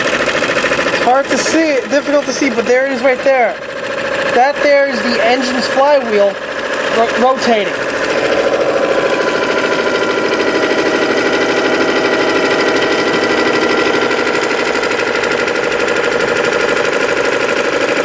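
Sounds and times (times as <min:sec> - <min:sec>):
small electric motor whirring: 0:00.0 - 0:18.0.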